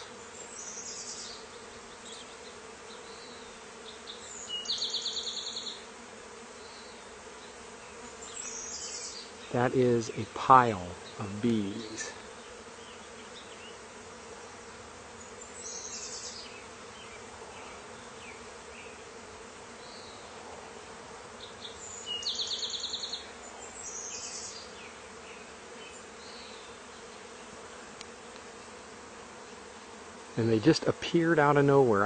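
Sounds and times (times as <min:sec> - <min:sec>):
bee swarm humming: 0:00.0 - 0:32.0.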